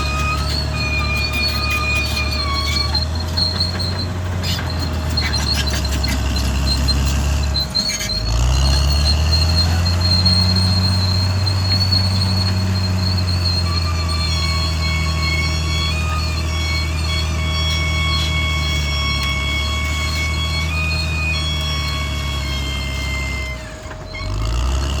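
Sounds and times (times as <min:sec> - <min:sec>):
bulldozer diesel engine: 0:00.0 - 0:25.0
steel tracks squealing and clanking: 0:00.0 - 0:25.0.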